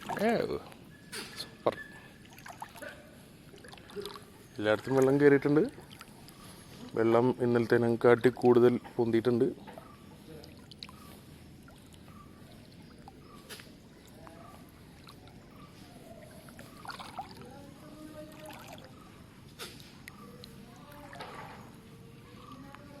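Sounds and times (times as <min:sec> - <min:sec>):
floodwater splashing and trickling: 0:00.0 - 0:22.9.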